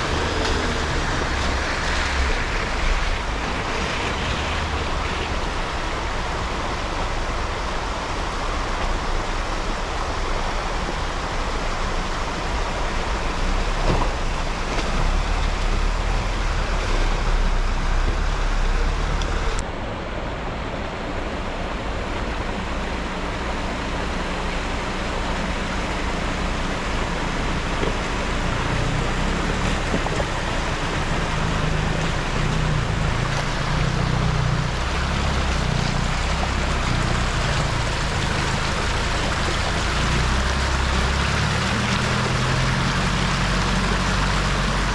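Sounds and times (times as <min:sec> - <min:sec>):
off-road vehicle engine: 0:00.0 - 0:44.9
rushing splashing noise: 0:00.0 - 0:44.9.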